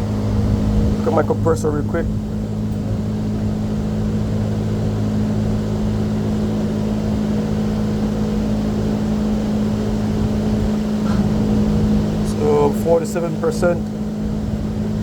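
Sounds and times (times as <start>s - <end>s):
rooftop air conditioner humming: 0.0s - 15.0s.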